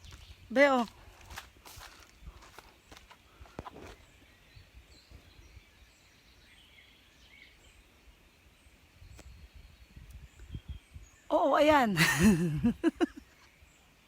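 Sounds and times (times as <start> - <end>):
soft bird chirps: 0.0 - 11.9.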